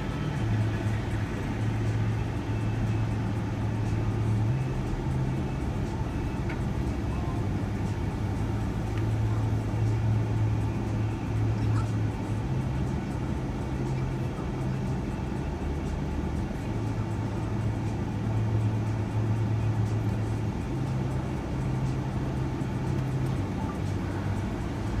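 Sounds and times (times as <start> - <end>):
road noise: 0.0 - 16.3, 18.7 - 25.0
van engine drone: 0.0 - 25.0.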